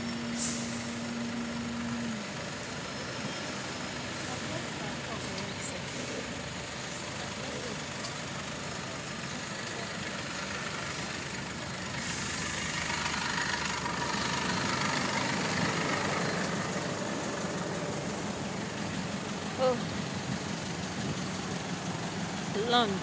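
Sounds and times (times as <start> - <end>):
bus engines running: 0.0 - 23.0
street traffic: 0.0 - 23.0.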